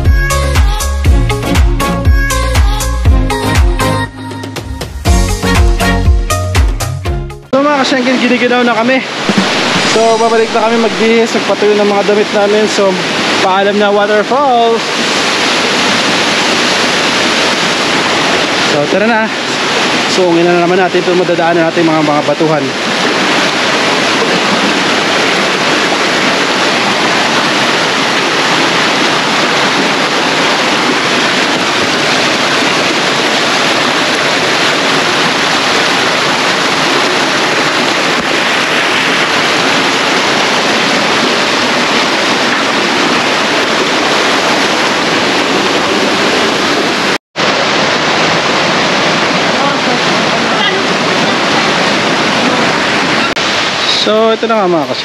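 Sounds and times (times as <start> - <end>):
waterfall roaring: 7.6 - 55.0.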